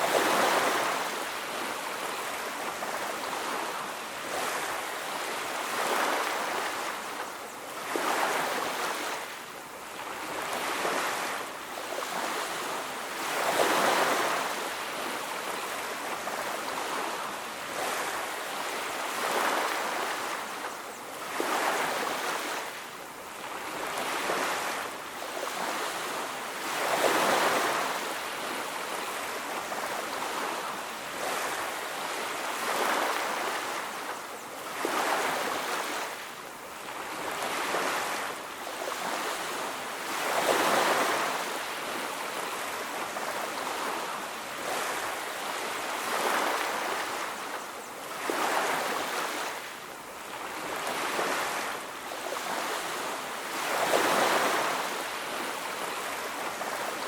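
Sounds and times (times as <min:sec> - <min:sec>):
sea waves washing onto beach: 0:00.0 - 0:57.0.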